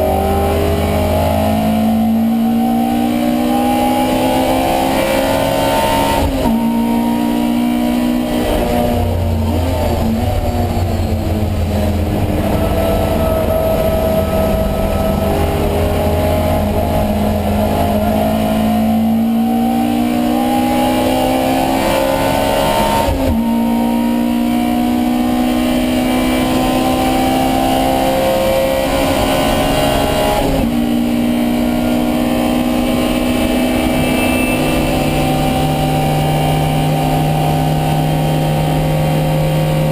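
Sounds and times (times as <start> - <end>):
gear changes: 0.0 - 39.9
racing car engine revving: 0.0 - 39.9.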